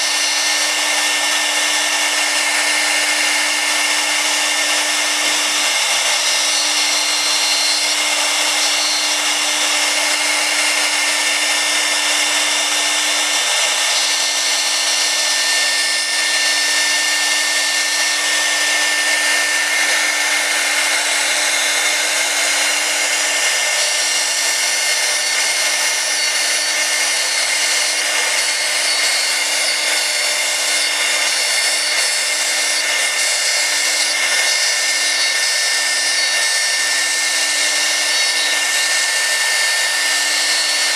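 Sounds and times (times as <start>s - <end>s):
hiss of cutting acrylic: 0.0s - 40.9s
router spindle whine: 0.0s - 40.9s.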